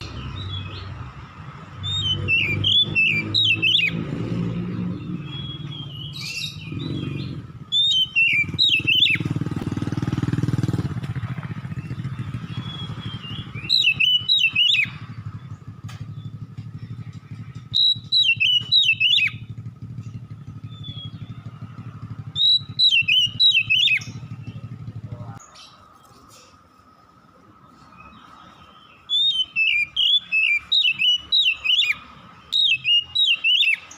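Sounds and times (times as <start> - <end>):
bird singing whistled notes: 0.0 - 1.0, 1.7 - 10.1, 10.9 - 25.8, 27.7 - 33.9.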